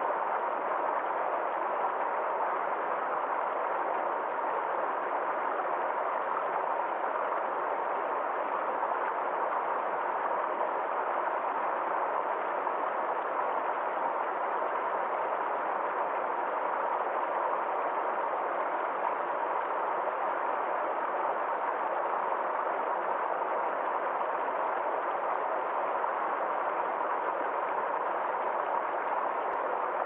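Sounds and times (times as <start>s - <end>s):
forest stream flowing: 0.0s - 30.0s.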